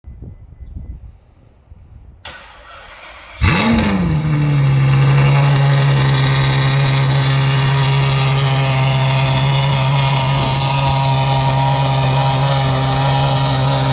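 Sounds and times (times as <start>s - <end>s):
car engine starting and idling: 2.2s - 13.9s
starter motor whir: 2.3s - 13.9s.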